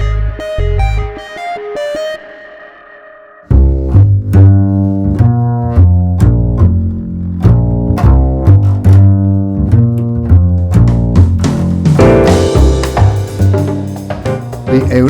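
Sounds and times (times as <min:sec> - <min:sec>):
background music with low notes: 0:00.0 - 0:15.0.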